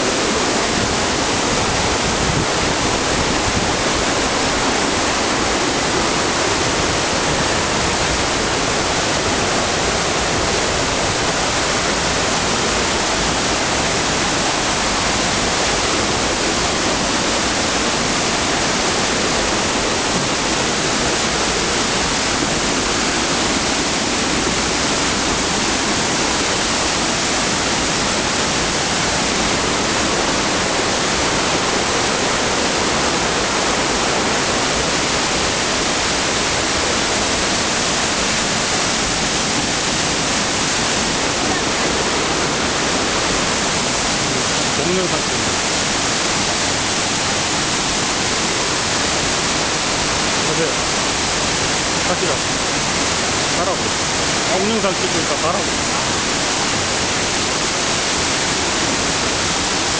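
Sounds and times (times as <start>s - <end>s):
mountain stream rushing over rocks: 0.0s - 59.9s.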